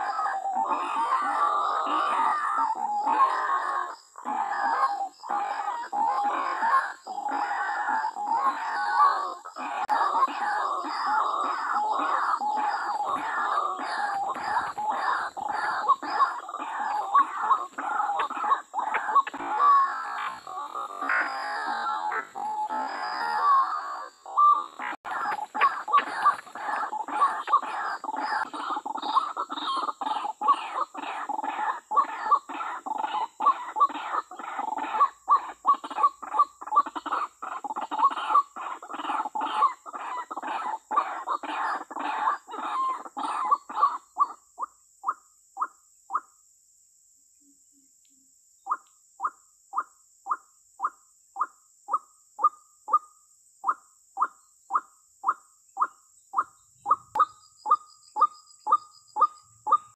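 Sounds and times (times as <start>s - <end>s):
waterhen calling: 0.0s - 44.4s, 53.7s - 59.9s.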